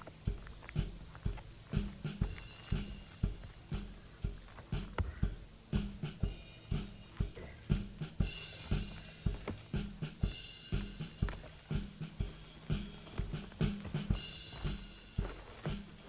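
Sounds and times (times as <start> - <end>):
music with steady drum beat: 0.0 - 16.0.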